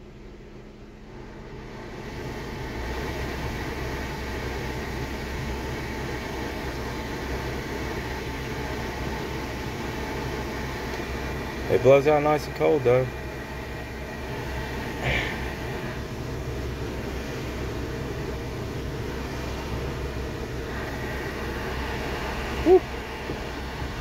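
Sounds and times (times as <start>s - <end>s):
car air conditioning fan blowing: 0.0s - 24.0s.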